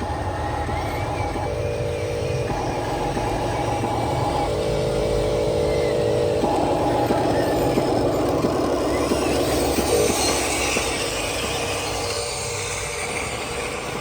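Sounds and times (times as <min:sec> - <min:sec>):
model truck motor whine: 0:00.0 - 0:14.0.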